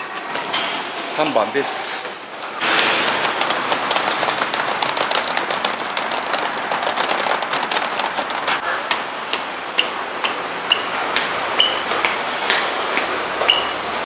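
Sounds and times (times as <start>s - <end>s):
crackling hissing street noise: 0.0s - 14.0s.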